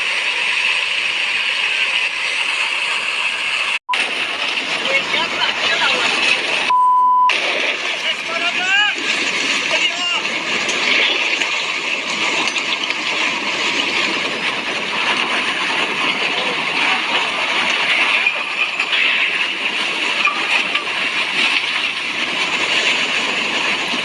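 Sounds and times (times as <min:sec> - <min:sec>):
mud flow rushing with rocks: 0:00.0 - 0:06.7, 0:07.3 - 0:24.0.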